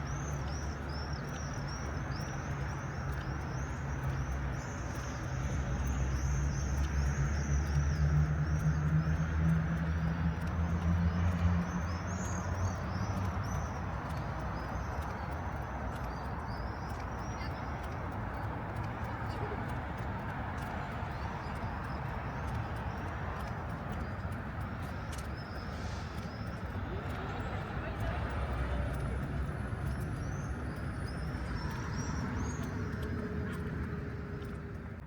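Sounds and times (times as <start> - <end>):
low traffic rumble: 0.0 - 35.0
vehicle passing: 5.4 - 35.0.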